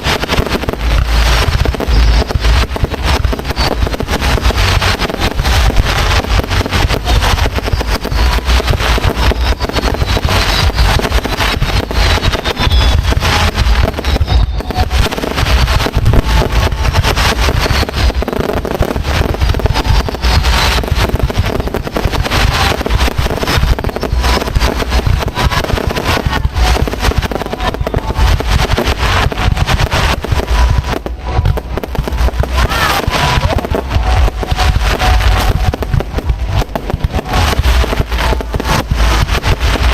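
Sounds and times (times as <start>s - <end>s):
deep fireworks booms: 0.0s - 39.9s
fireworks bangs and crackles: 0.0s - 39.9s.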